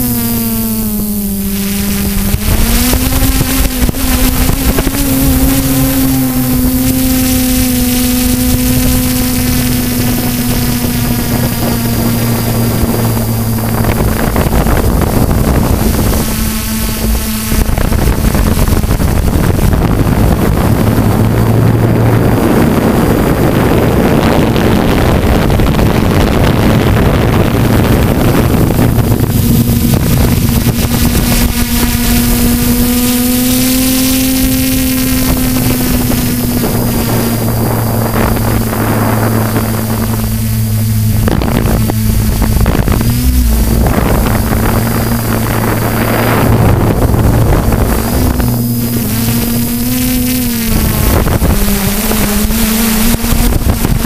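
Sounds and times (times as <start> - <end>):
drone propellers humming: 0.0 - 54.0
wind on microphone: 0.0 - 54.0.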